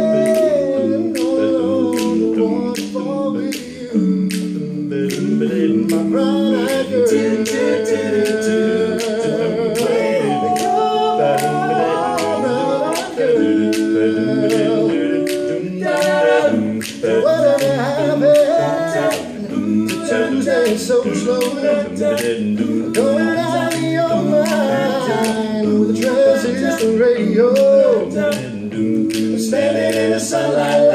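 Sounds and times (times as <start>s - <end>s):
men singing in close harmony: 0.0s - 30.9s.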